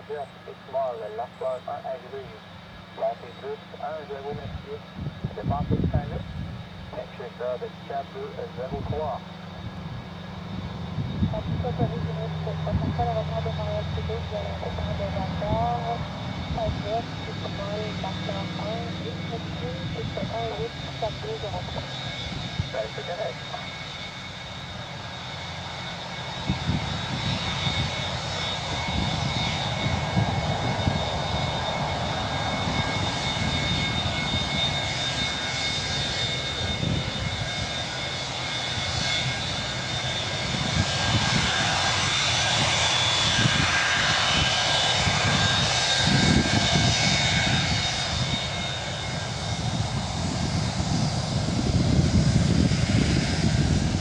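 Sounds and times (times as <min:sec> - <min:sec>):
deep engine rumble: 0:00.0 - 0:54.0
jet engines high whine: 0:00.0 - 0:54.0.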